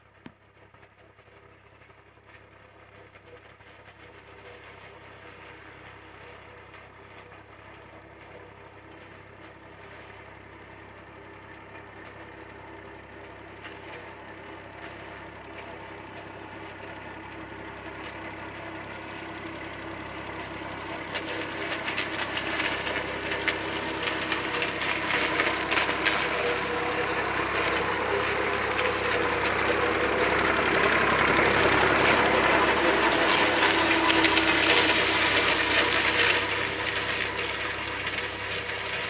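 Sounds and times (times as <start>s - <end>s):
tractor diesel engine under load: 0.0s - 39.0s
forage harvester rattling and hissing: 1.4s - 39.0s.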